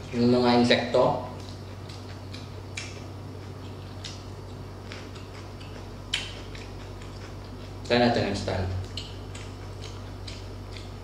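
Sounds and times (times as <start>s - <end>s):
crunchy chewing clicks: 0.0s - 11.0s.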